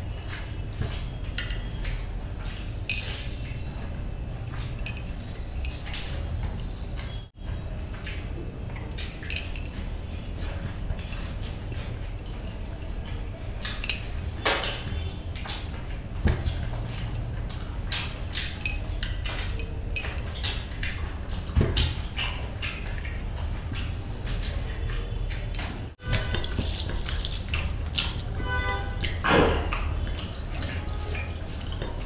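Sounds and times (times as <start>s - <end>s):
clinks against glass trays: 0.0s - 32.0s.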